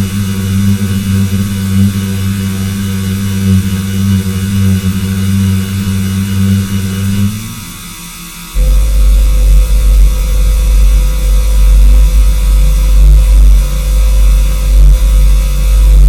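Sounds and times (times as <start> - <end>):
loud electrical buzz: 0.0 - 16.0.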